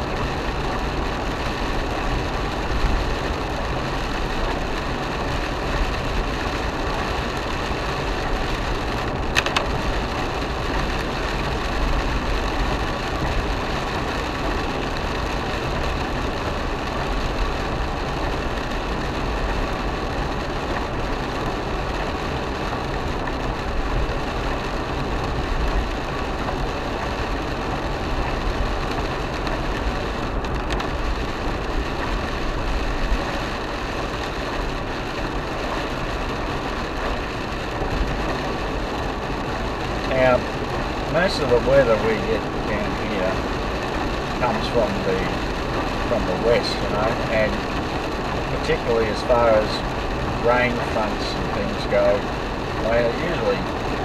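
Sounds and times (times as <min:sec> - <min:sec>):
car cabin road and engine noise: 0:00.0 - 0:54.0
tyres hissing on wet road: 0:00.0 - 0:54.0.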